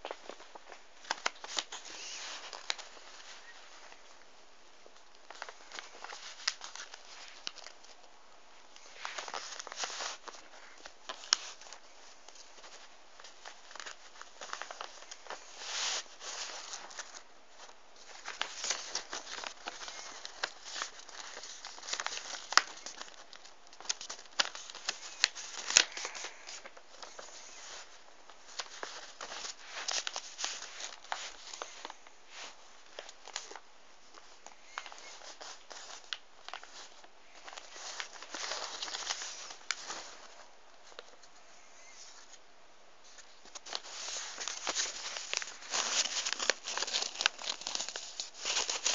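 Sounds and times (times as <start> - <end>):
paper rustling and crackling: 0.0 - 42.4, 43.0 - 48.9.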